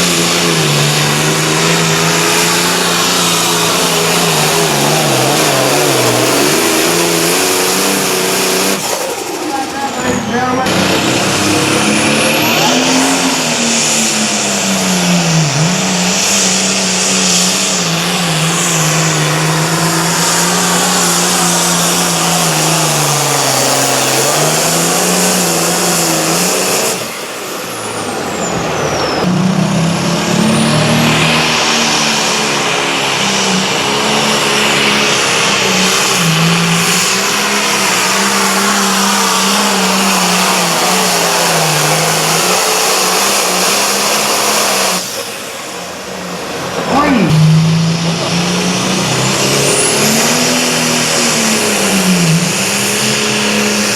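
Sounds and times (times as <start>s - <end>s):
tractor engine under load: 0.0s - 53.9s.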